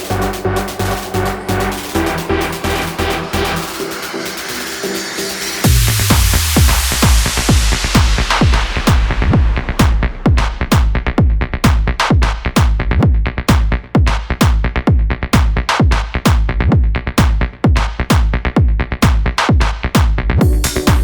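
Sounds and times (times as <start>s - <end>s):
electronic dance music: 0.0s - 16.5s, 17.2s - 21.0s.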